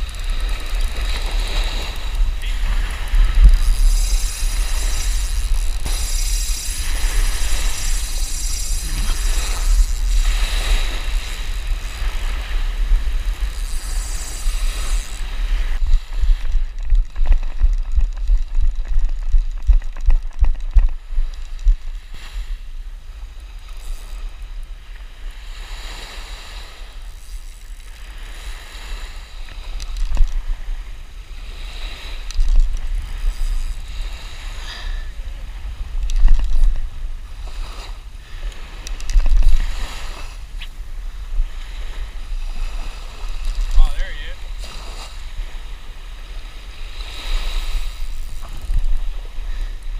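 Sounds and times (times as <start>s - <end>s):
small waves breaking on sand: 0.0s - 49.9s
wind buffeting microphone: 0.0s - 49.9s.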